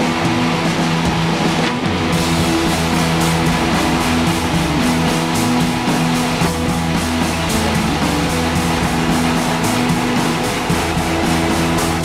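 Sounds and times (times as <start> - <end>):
rock guitar music: 0.0 - 12.0
steady drone: 0.0 - 12.0.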